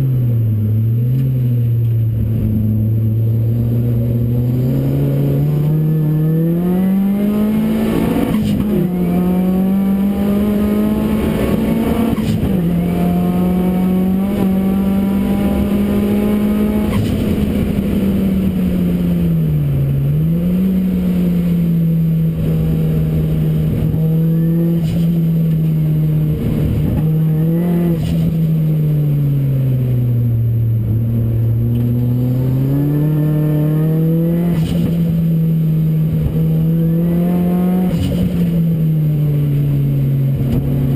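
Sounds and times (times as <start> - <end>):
car engine at high revs: 0.0 - 40.9.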